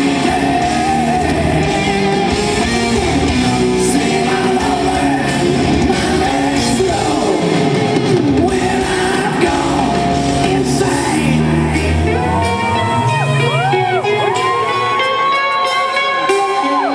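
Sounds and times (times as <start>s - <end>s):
live hard rock band: 0.0s - 16.9s
person singing: 0.0s - 16.9s.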